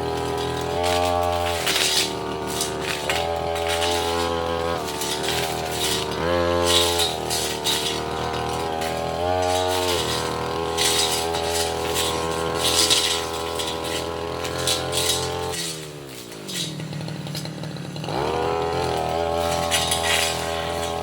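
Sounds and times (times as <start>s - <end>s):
brush cutter engine running: 0.0s - 21.0s
cutting head rattling on wood: 0.0s - 21.0s.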